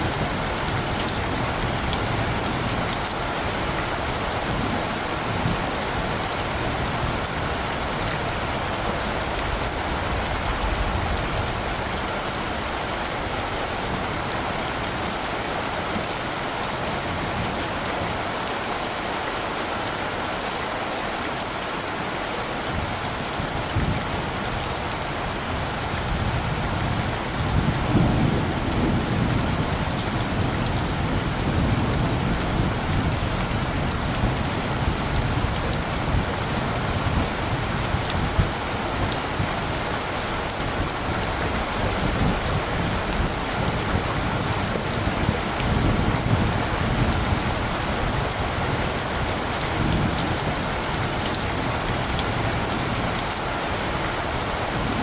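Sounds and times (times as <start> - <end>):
low thunder rumbling: 0.0 - 18.2, 22.7 - 55.0
rain pattering: 0.0 - 55.0.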